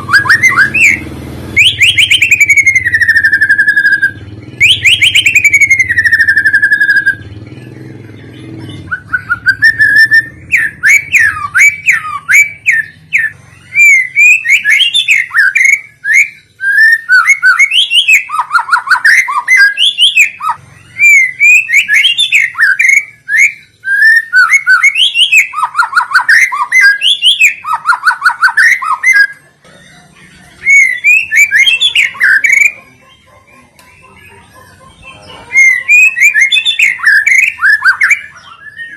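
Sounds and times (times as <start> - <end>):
songbird singing whistled phrases: 0.0 - 29.4, 30.6 - 38.9.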